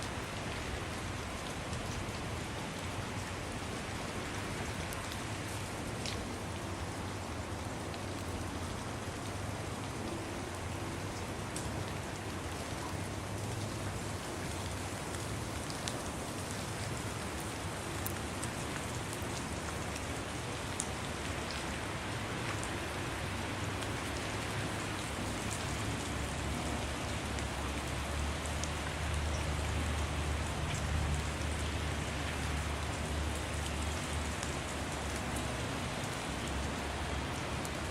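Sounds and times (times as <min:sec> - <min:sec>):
wet snow falling and dripping: 0:00.0 - 0:37.9.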